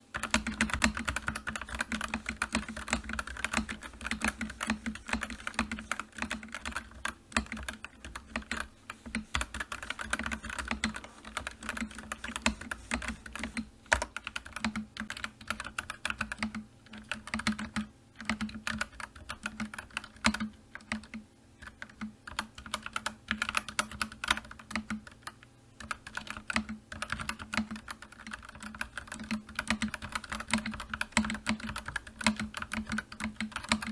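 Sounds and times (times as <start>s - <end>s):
computer keyboard typing: 0.0s - 33.9s.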